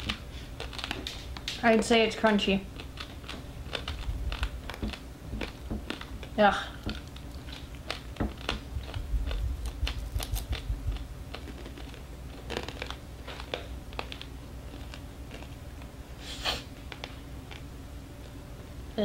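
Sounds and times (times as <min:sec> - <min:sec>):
dried scorpions crunching: 0:00.0 - 0:15.9.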